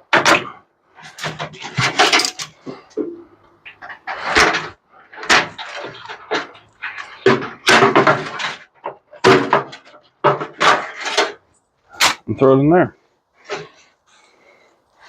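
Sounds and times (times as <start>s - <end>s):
metal parts knocking and rattling: 0.0s - 12.2s.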